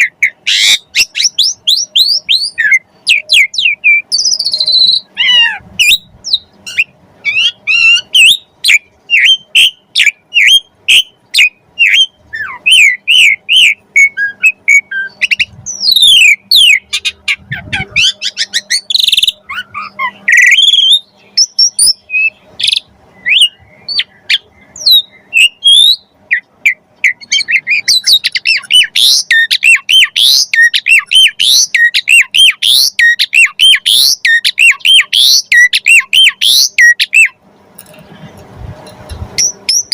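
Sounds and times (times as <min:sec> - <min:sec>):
starling singing varied song: 0:00.0 - 0:37.4.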